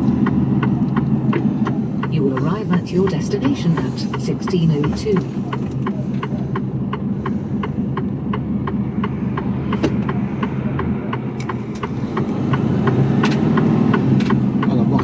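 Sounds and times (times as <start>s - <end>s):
diesel truck engine running: 0.0s - 15.0s
turn signal ticking: 0.0s - 15.0s.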